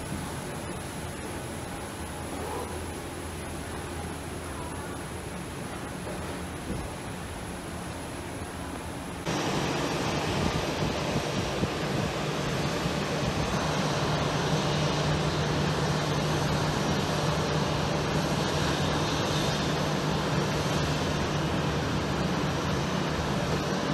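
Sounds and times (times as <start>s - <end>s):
jet engines rushing: 0.0s - 23.9s
steady low hum: 0.0s - 23.9s.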